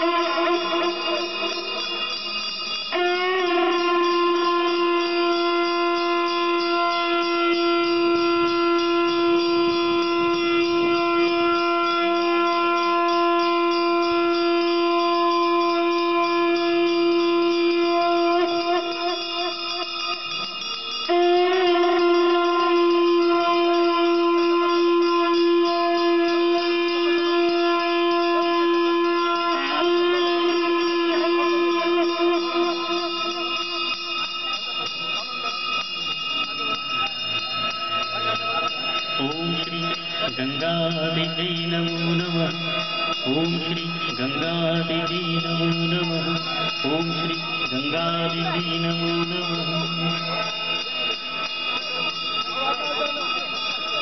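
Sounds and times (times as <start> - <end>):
conch shell blasts: 0.0 - 52.4.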